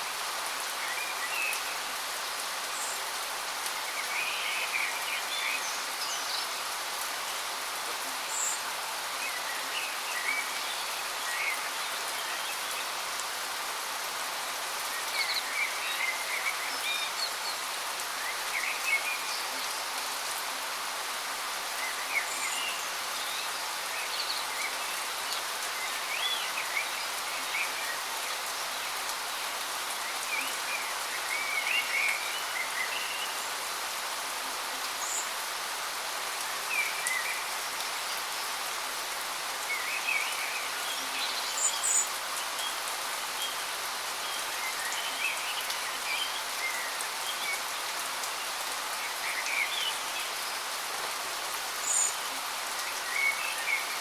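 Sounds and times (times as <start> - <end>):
waterfall rushing water: 0.0 - 54.0
songbirds chirping: 0.1 - 54.0.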